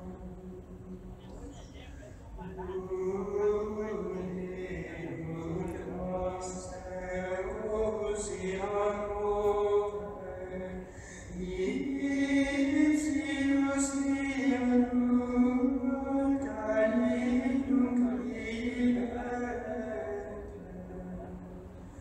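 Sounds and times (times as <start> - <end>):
slow sung chant: 0.0 - 22.0.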